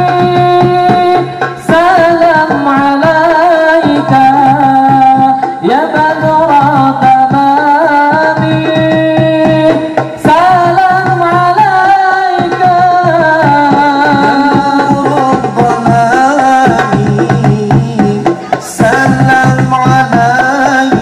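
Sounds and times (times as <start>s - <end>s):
frame drums beating: 0.0s - 21.0s
person chanting into microphone: 0.0s - 21.0s.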